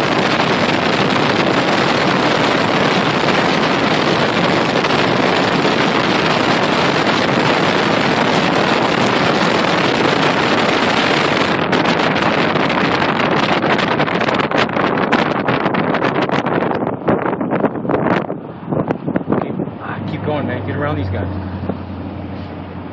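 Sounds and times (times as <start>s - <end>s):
wind and road noise: 0.0s - 22.9s
wind buffeting microphone: 0.0s - 22.9s.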